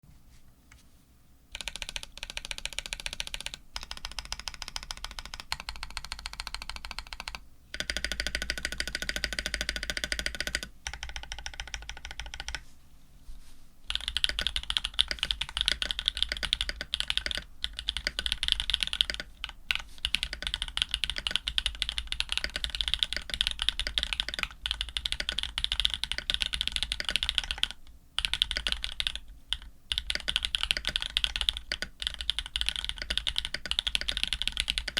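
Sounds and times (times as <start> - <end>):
mechanical keyboard typing: 1.5 - 12.6, 13.9 - 34.9.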